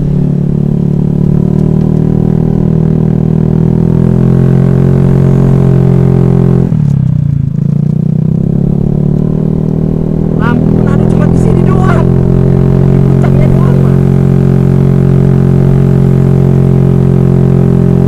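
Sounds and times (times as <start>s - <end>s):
scooter engine droning: 0.0s - 18.0s.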